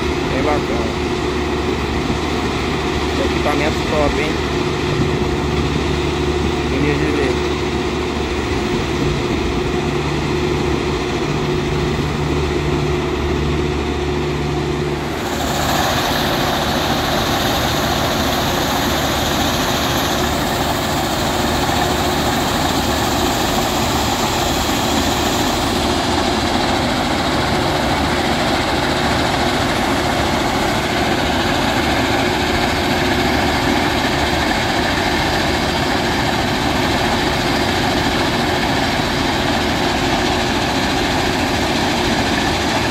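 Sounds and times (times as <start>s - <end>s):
heavy machinery engine hum: 0.0s - 42.9s
loud harsh machine noise: 0.0s - 42.9s.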